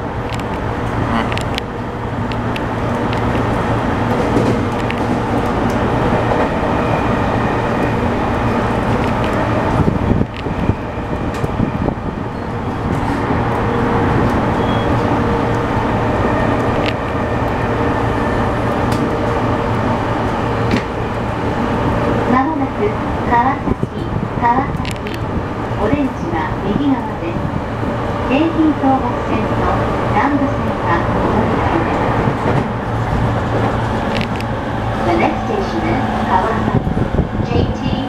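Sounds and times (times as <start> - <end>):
wheels rumbling on rails: 0.0 - 38.0.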